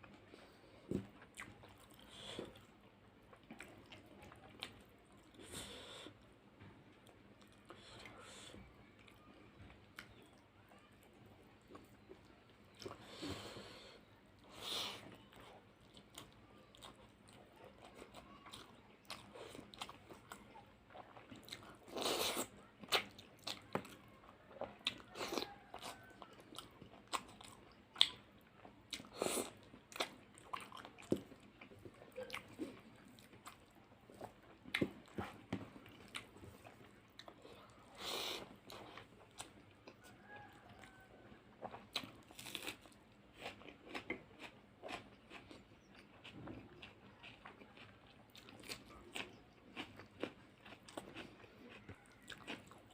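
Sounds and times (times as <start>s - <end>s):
person chewing and crunching: 0.0s - 6.3s, 14.4s - 52.9s.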